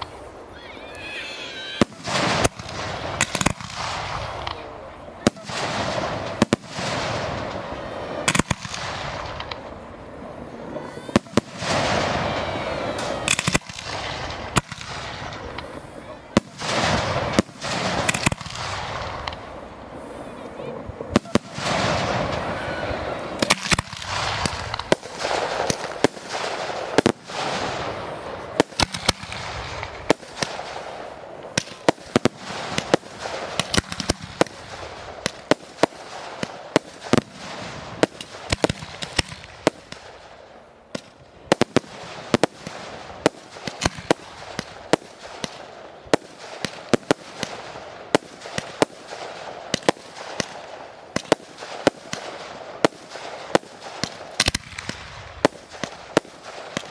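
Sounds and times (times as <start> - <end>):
crackling hiss: 0.0 - 56.9
fireworks bangs: 0.0 - 56.9.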